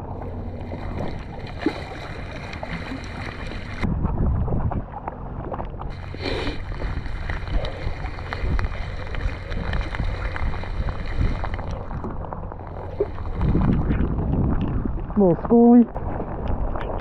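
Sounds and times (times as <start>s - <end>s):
hiss of wind and water: 0.0s - 3.9s, 5.8s - 17.0s
wind buffeting microphone: 0.0s - 17.0s.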